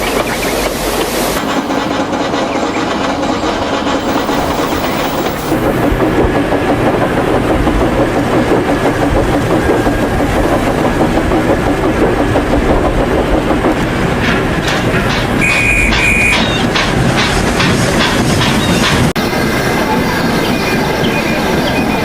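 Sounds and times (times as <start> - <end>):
train rumbling and rattling: 0.0 - 22.0.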